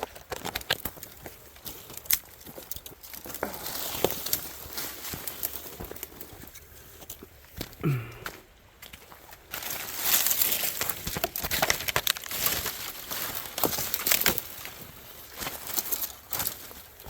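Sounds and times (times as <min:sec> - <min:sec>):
footsteps crunching on frozen ground: 0:00.0 - 0:17.0.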